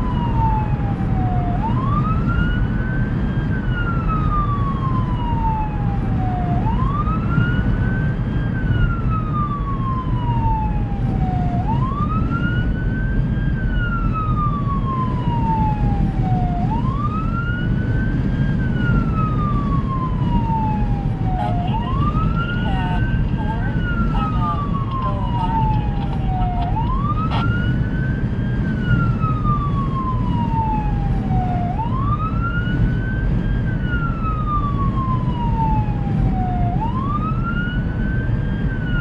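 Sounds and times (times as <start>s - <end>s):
engine and road noise: 0.0s - 39.0s
siren wailing: 0.0s - 39.0s.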